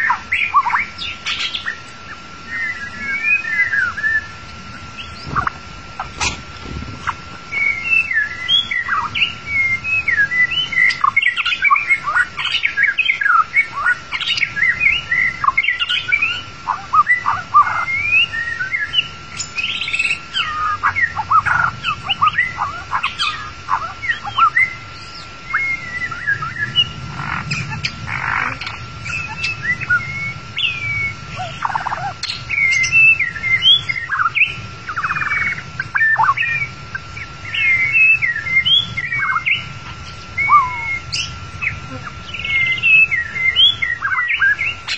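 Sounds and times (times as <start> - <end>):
bird singing whistled song: 0.0 - 5.5, 7.5 - 44.9
faint steady high tone: 7.5 - 44.9.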